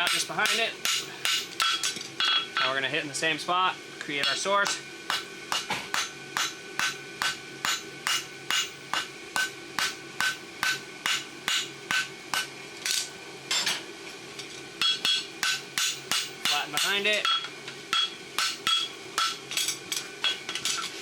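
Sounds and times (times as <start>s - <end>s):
hammer striking horseshoe on anvil: 0.0s - 2.7s, 4.2s - 12.5s, 14.8s - 20.8s.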